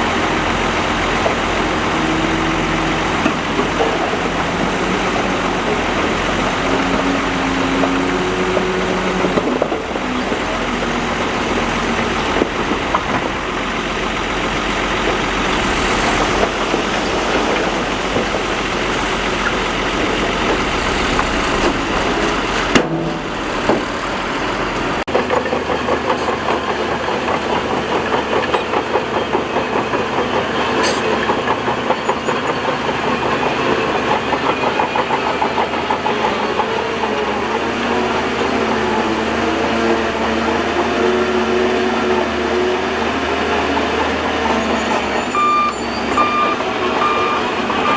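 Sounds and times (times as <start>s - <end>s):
rapidly pulsing engine: 0.0s - 45.2s
bulldozer engine running: 0.0s - 47.9s.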